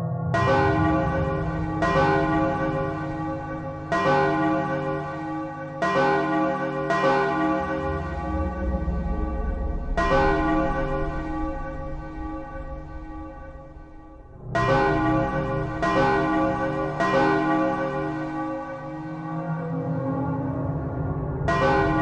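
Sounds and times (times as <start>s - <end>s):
large bell ringing: 0.4s - 20.0s, 21.5s - 22.0s.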